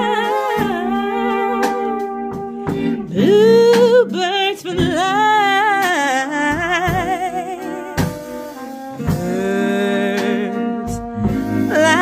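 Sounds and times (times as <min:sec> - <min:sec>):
drum kit: 0:00.0 - 0:12.0
electric guitar: 0:00.0 - 0:12.0.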